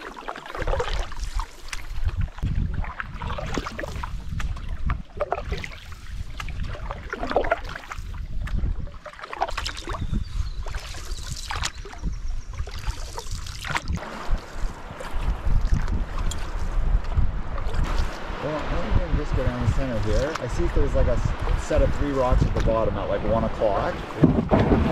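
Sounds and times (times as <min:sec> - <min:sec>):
paddle splashing water: 0:00.0 - 0:24.9
water against canoe hull: 0:00.0 - 0:24.9
wind buffeting microphone: 0:00.7 - 0:24.9.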